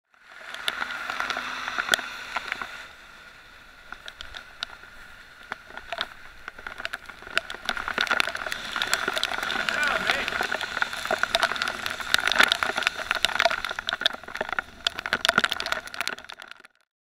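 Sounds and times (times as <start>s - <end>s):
bicycle tyres hissing through water: 0.1s - 16.4s
raindrops ticking on camera: 0.1s - 16.9s
heavy rain: 0.4s - 16.4s.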